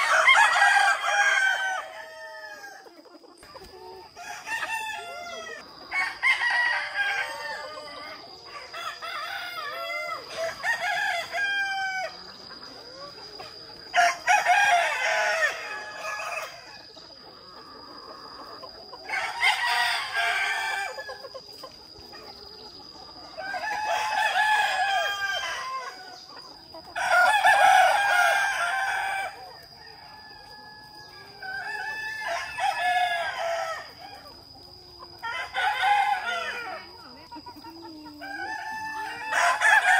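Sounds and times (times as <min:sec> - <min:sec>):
roosters crowing: 0:00.0 - 0:37.0, 0:37.7 - 0:39.9
hens clucking: 0:00.0 - 0:39.9.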